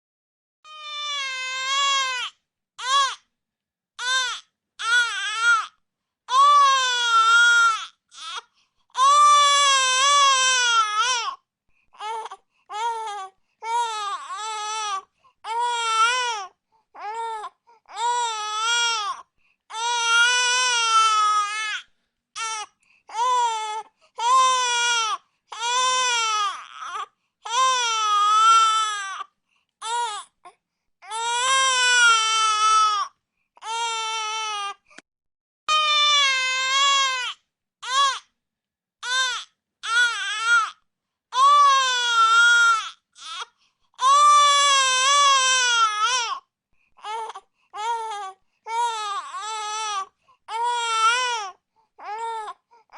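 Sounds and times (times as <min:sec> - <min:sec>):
baby crying: 0:00.7 - 0:03.3, 0:04.0 - 0:11.4, 0:12.0 - 0:34.8, 0:35.7 - 0:38.3, 0:39.0 - 0:46.4, 0:47.0 - 0:52.9.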